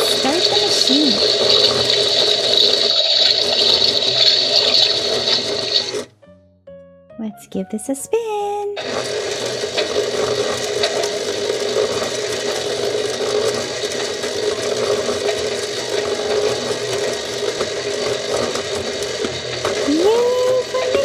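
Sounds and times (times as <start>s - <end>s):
toy motor whirring and rattling: 0.0s - 6.1s, 8.8s - 21.0s.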